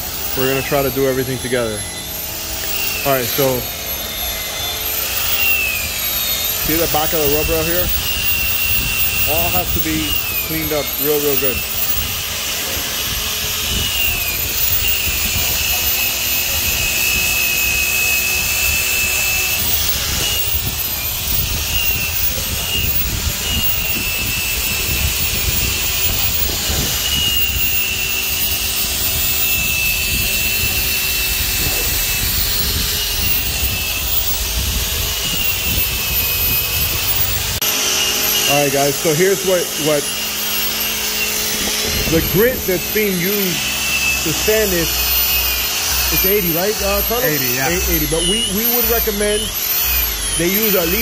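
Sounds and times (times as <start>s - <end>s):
orbital sander whining: 0.0s - 51.0s
sander hiss: 0.0s - 51.0s.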